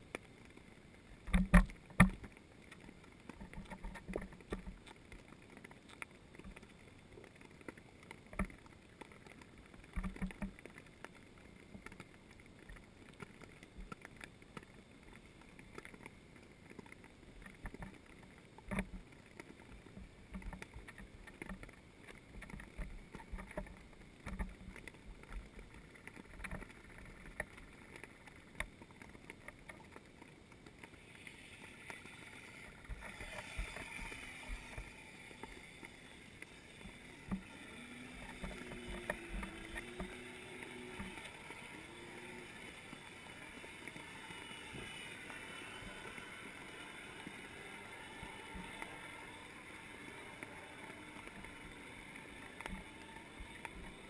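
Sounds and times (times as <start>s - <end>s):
faint underwater water noise: 0.0s - 54.0s
soft clicks and knocks: 0.0s - 54.0s.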